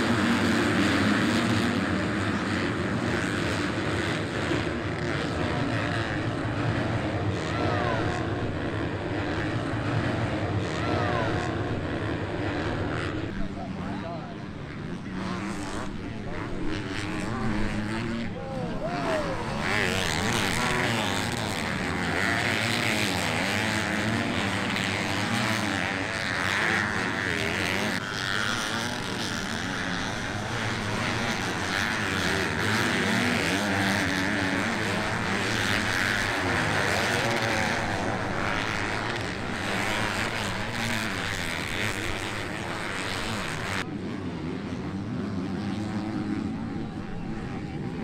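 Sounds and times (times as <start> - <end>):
motocross bike engines revving: 0.0 - 48.0
steady rushing noise: 0.0 - 48.0.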